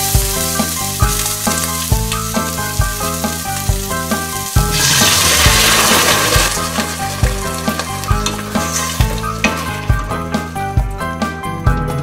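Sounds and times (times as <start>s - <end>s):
onions sizzling in oil: 0.0s - 10.8s
background music with beat: 0.0s - 12.0s.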